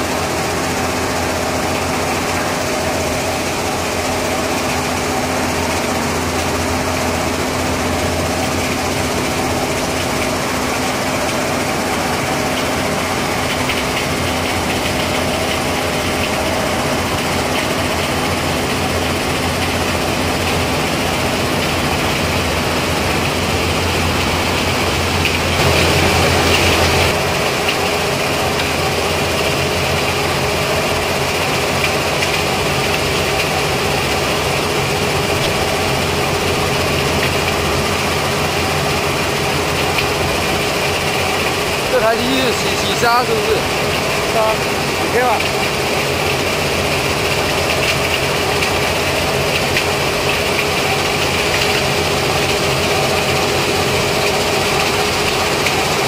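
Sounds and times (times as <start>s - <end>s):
belt conveyor running: 0.0s - 56.0s
drive motors droning: 0.0s - 56.0s
sand washer running: 0.0s - 56.0s.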